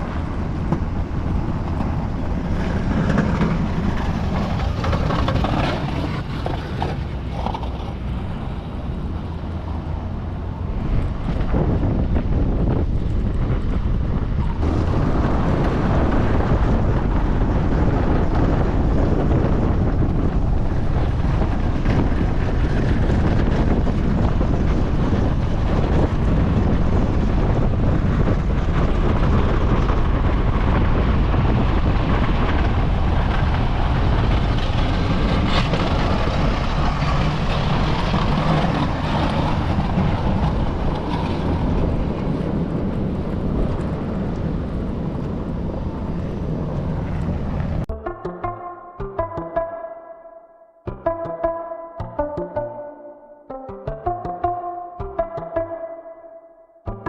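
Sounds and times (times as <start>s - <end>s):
wind noise on microphone: 0.0s - 47.9s
truck engine rumble: 0.0s - 50.0s.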